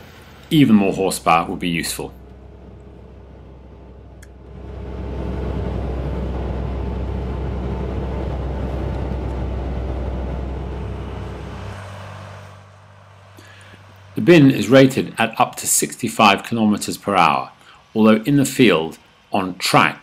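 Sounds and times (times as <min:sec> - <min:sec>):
combine harvester machinery drone: 0:00.0 - 0:19.9.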